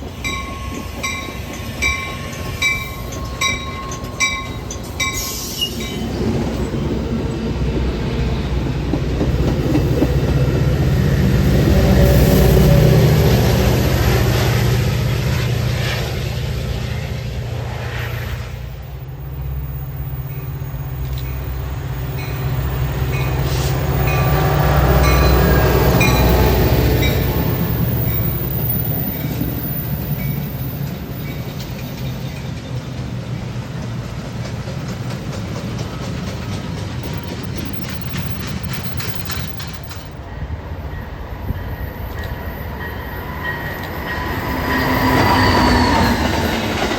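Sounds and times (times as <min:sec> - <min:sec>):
train rumbling past: 0:00.0 - 0:46.9
train wheels clicking on rails: 0:00.0 - 0:46.9.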